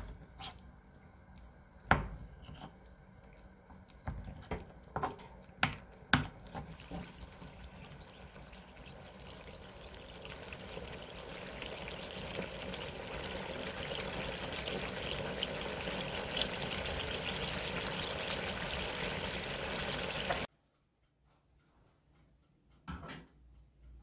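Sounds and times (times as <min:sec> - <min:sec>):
sauce bubbling and popping: 0:00.0 - 0:20.5.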